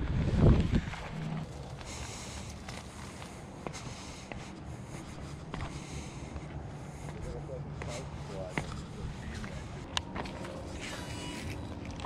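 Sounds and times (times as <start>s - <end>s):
footsteps on dry grass and dirt: 0.0s - 12.0s.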